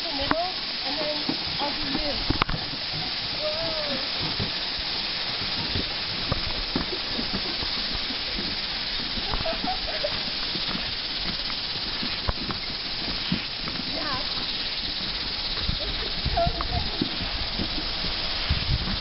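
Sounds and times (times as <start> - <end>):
steady hiss: 0.0 - 19.0
footsteps on bridge walkway: 0.3 - 19.0.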